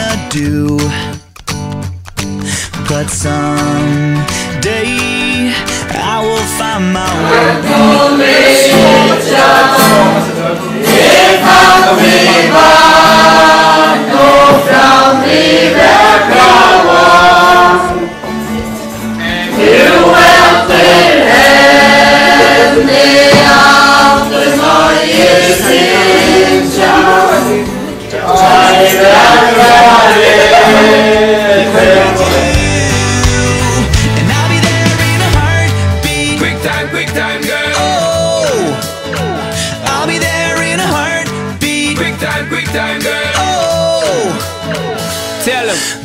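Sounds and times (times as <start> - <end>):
group of people singing: 6.8 - 45.4.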